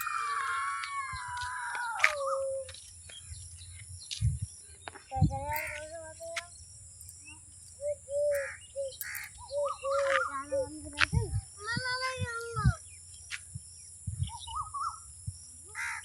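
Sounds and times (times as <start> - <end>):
birds chirping and calling: 0.0 - 15.1.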